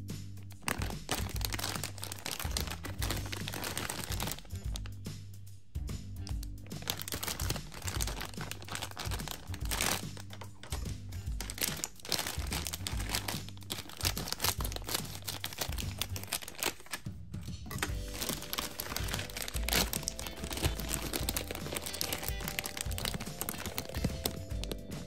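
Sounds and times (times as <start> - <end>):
background music: 0.0 - 25.0
plastic bag crinkling: 0.5 - 4.8, 6.3 - 25.0.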